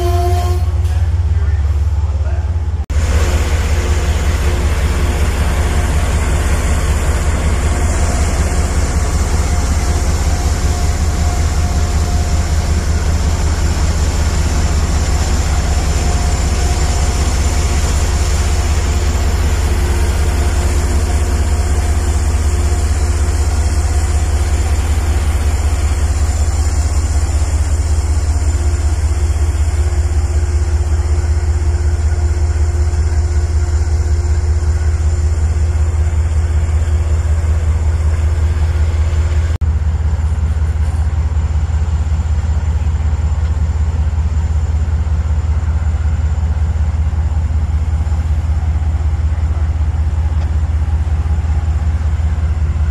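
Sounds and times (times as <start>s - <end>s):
locomotive diesel engine drone: 0.0s - 52.9s.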